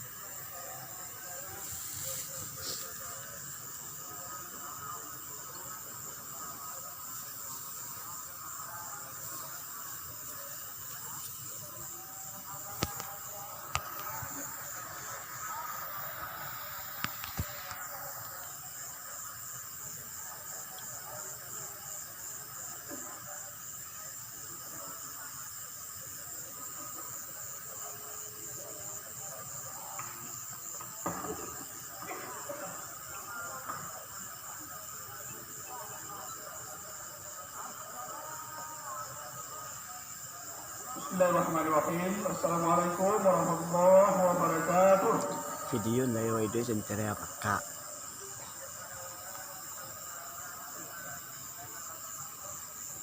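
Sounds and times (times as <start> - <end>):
background hiss: 0.0 - 53.0
faint indistinct voices: 0.0 - 53.0
high-pitched insect chorus: 0.0 - 53.0.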